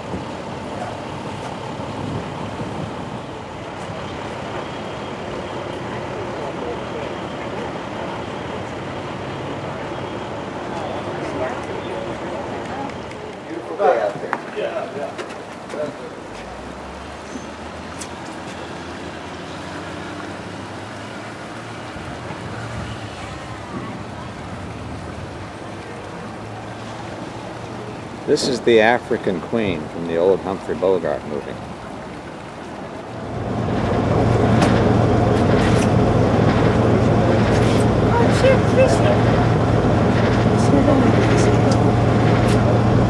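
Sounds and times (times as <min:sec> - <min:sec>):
boat engine droning: 0:00.0 - 0:14.2, 0:14.8 - 0:43.0
light wind: 0:00.0 - 0:43.0
water: 0:00.0 - 0:43.0.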